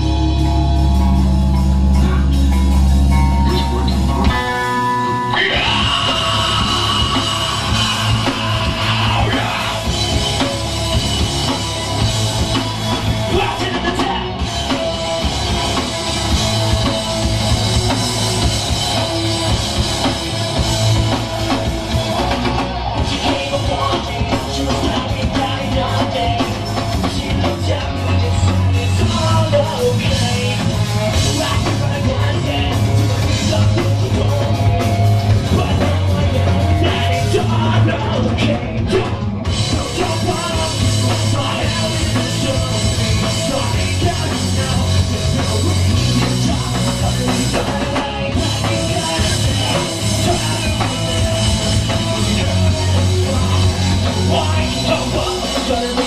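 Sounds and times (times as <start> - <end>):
drum kit: 0.0 - 56.0
rock band playing: 0.0 - 56.0.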